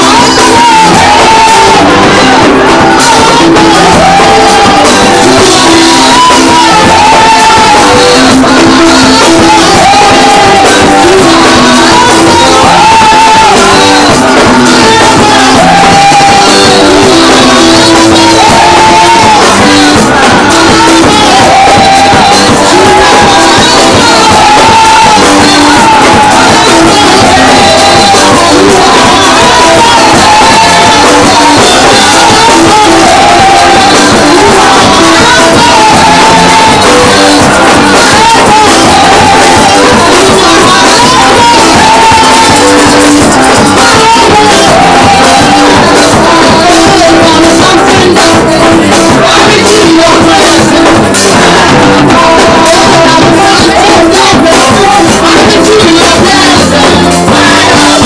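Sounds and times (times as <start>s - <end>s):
congregation shouting: 0.0s - 50.8s
person singing over a band: 0.0s - 58.0s.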